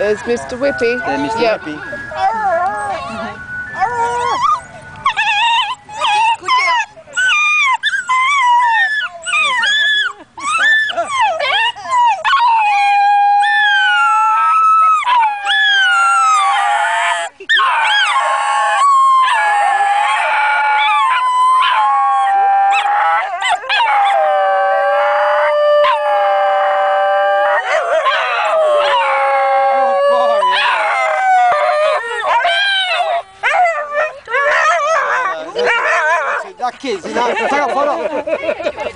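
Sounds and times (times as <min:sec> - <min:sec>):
dogs yodelling howls: 0:00.0 - 0:38.1.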